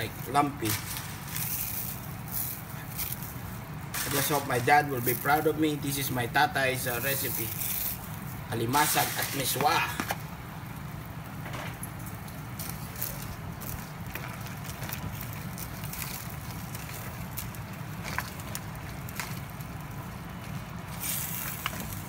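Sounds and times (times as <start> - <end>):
soup boiling in a pan: 0.0 - 22.0.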